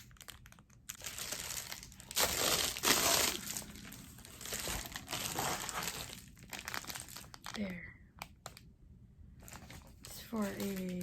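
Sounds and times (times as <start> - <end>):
packaging crinkling: 0.0 - 8.7, 9.4 - 11.0.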